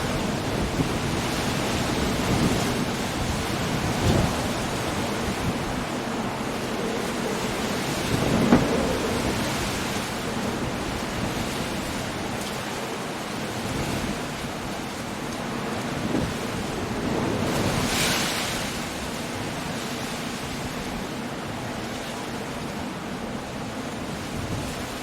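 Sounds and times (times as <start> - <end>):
heavy rain: 0.0 - 25.0
wind: 0.0 - 25.0.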